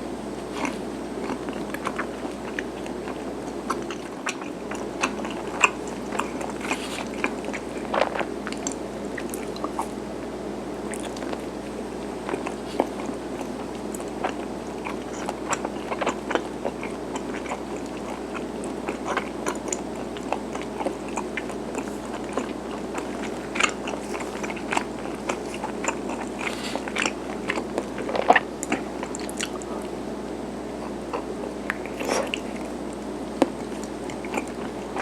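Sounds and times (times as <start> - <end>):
chewing and biting: 0.4 - 35.0.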